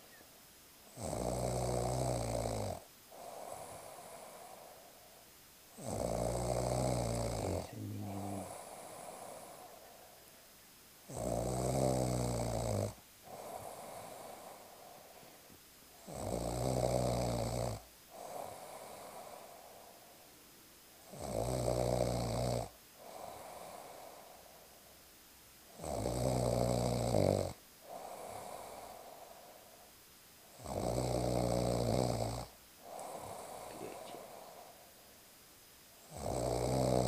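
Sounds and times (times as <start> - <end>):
quiet breath: 0.0 - 2.1, 2.8 - 21.2, 21.8 - 25.9, 26.6 - 37.0
person snoring: 0.9 - 5.1, 5.8 - 10.3, 11.1 - 20.2, 21.0 - 24.8, 25.7 - 29.9, 30.5 - 35.0, 36.0 - 37.0.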